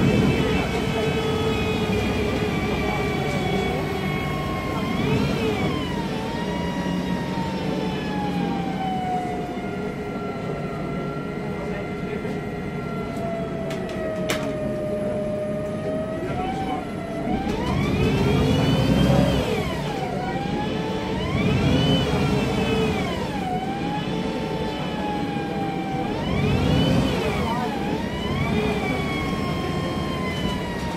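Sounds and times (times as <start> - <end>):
bus engine rumble: 0.0 - 30.9.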